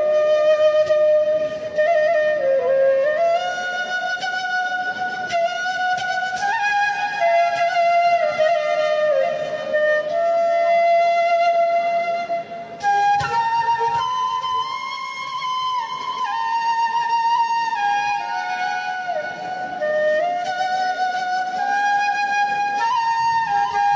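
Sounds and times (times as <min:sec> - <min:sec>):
flute melody: 0:00.0 - 0:23.9.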